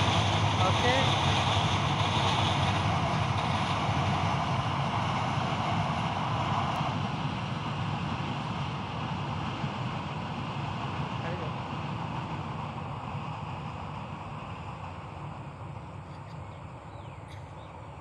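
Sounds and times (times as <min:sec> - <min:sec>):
passenger train running on track: 0:00.0 - 0:18.0.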